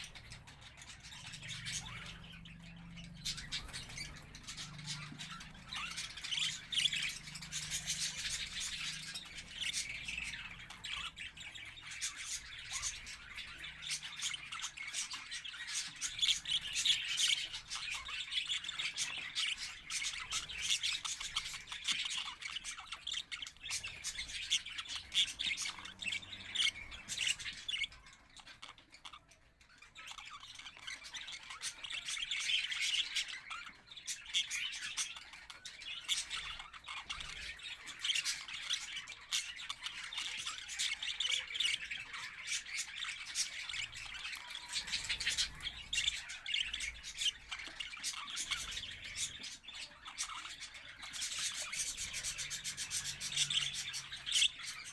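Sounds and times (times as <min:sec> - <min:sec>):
bird squawk: 0:00.0 - 0:54.9
cage birds chirping: 0:00.0 - 0:54.9.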